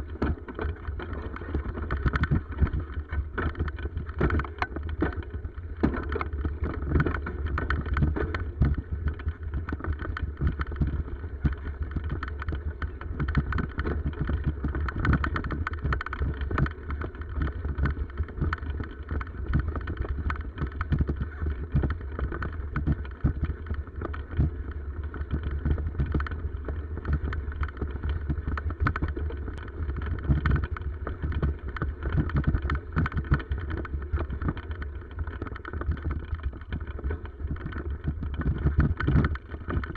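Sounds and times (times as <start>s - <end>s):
bicycle rattling: 0.0s - 39.9s.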